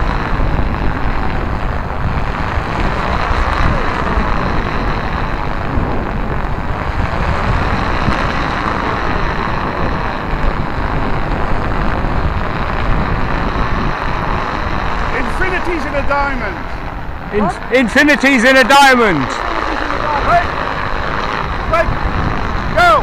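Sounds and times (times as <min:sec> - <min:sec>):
stunt kites roaring: 0:00.0 - 0:23.0
wind buffeting microphone: 0:00.0 - 0:23.0
wind roaring: 0:00.0 - 0:23.0.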